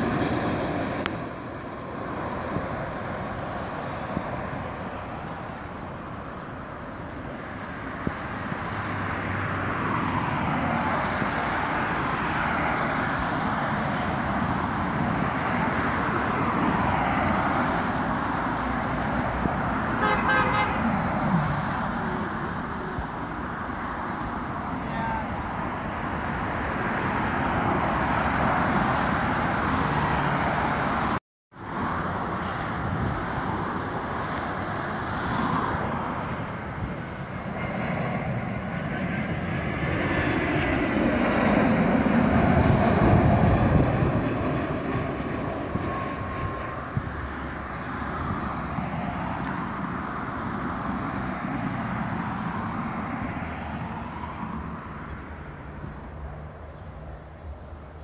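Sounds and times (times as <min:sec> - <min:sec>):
distant jet engine roar: 0:00.0 - 0:58.0
road traffic passing: 0:00.0 - 0:58.0.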